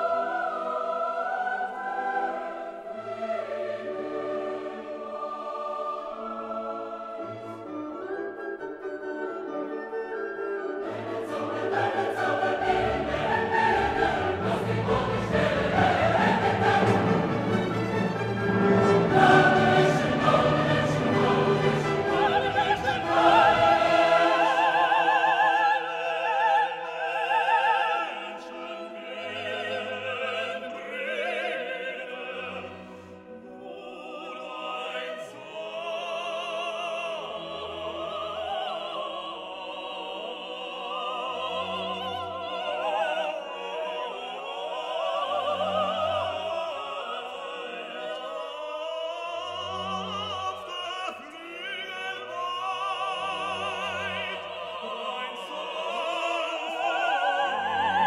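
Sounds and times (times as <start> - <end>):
operatic singing with orchestra: 0.0 - 58.0.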